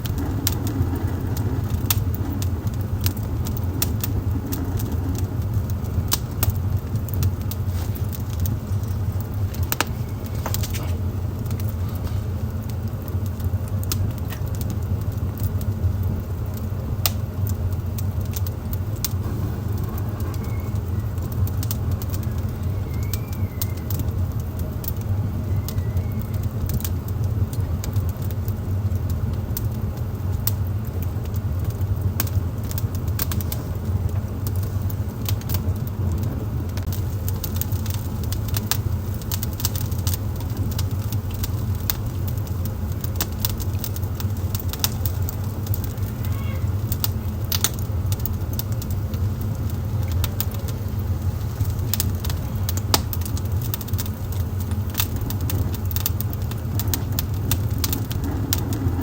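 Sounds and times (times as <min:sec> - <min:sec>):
fire crackling and popping: 0:00.0 - 0:59.0
wood fire rumbling: 0:00.0 - 0:59.0.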